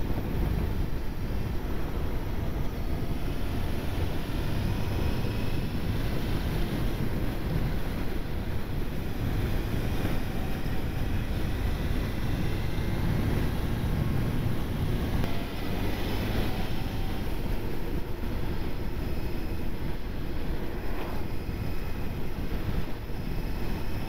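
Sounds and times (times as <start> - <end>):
wind rush on microphone: 0.0 - 24.0.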